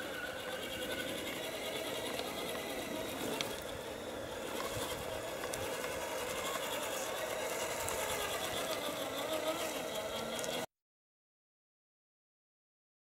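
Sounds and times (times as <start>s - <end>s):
electric motor and gearbox whining: 0.0s - 10.7s.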